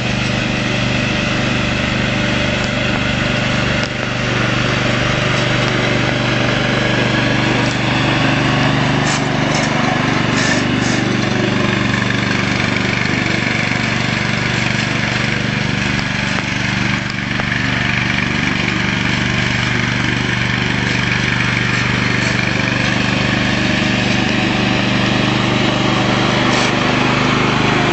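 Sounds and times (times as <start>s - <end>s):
ride-on lawnmower engine running: 0.0s - 27.9s.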